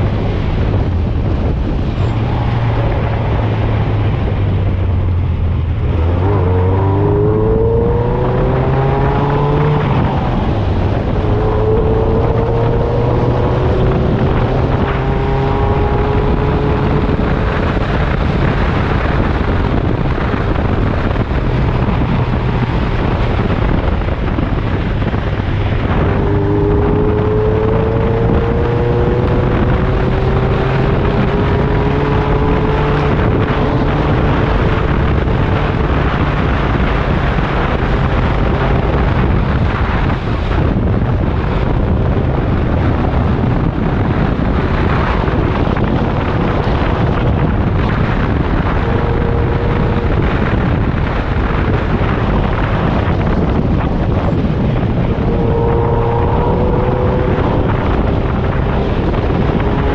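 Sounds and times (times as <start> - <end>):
buggy engine accelerating: 0.0 - 59.9
wind and road noise: 0.0 - 59.9.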